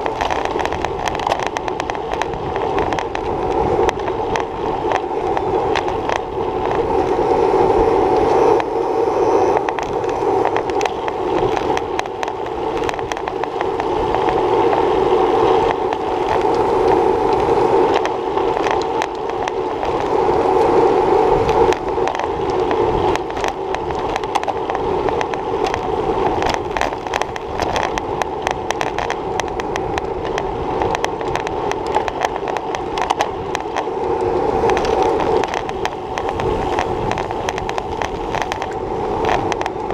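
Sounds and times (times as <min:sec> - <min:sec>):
bicycle rattles and knocks: 0:00.0 - 0:39.9
wind and tyre noise: 0:00.0 - 0:39.9.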